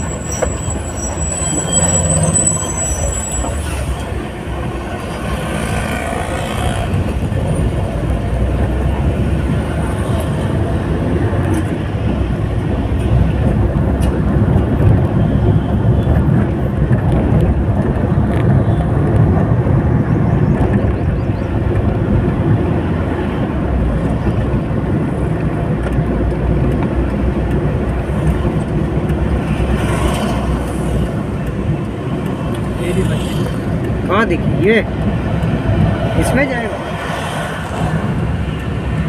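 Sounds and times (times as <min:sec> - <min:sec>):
vehicle road and wind noise: 0:00.0 - 0:39.0.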